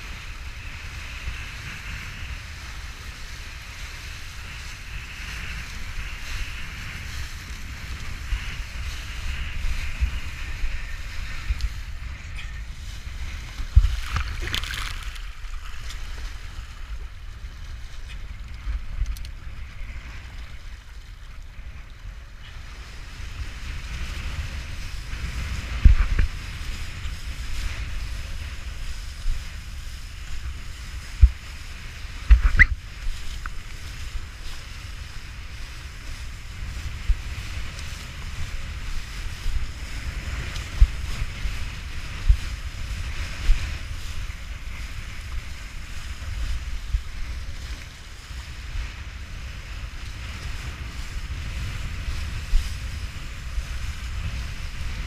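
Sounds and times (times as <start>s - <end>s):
board slapping water: 0.0s - 55.0s
strong wind on microphone: 0.0s - 55.0s.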